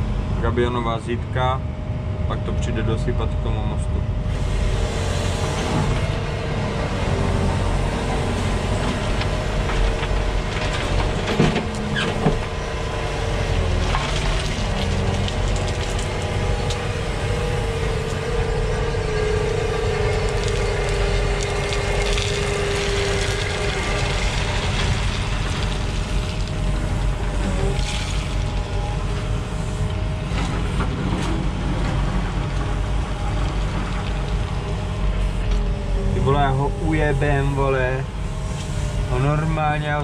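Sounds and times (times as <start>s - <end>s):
engine whine: 0.0s - 40.0s
excavator diesel engine running: 0.0s - 40.0s.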